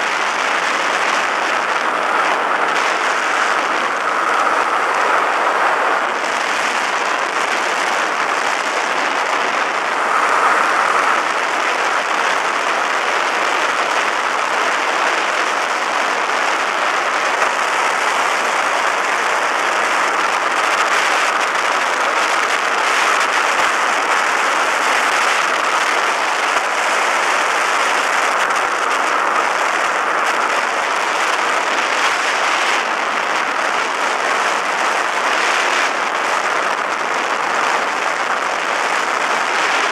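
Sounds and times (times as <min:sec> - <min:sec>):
aircraft engine: 0:00.0 - 0:39.9
rush of airflow: 0:00.0 - 0:39.9.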